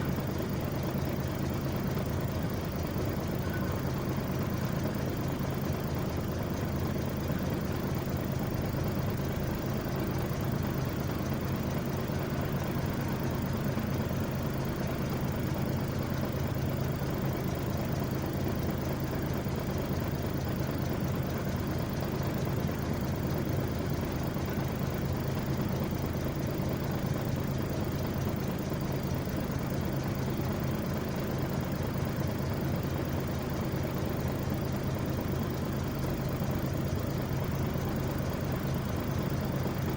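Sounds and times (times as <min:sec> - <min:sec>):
heavy engine idling: 0:00.0 - 0:39.9.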